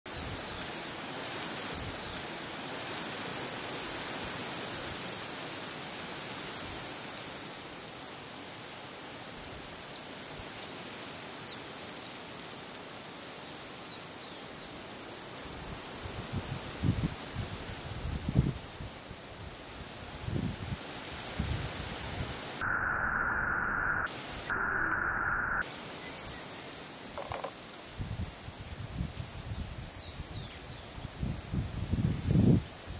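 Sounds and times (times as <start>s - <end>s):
background hiss: 0.1s - 22.7s, 24.0s - 24.6s, 25.3s - 32.9s.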